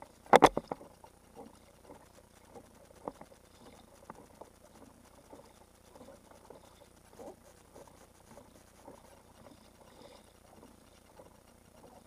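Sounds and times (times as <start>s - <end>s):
water lapping against kayak hull: 0.0s - 12.0s.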